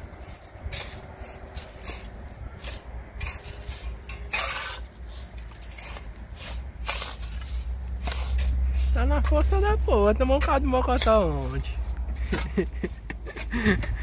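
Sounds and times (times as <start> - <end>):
shovel scraping sand: 0.0 - 14.0.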